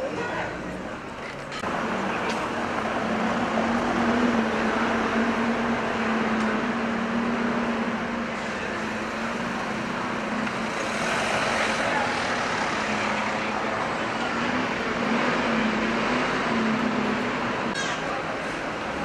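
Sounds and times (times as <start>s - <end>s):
street noise: 0.0s - 19.0s.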